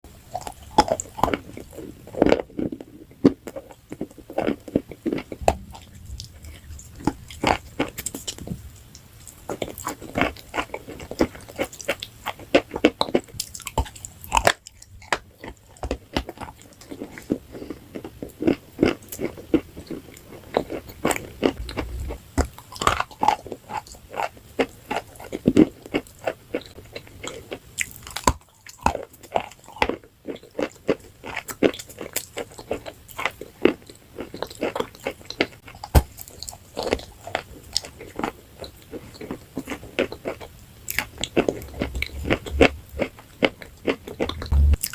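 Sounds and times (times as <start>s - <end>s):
person chewing crunchy food: 0.1s - 44.9s.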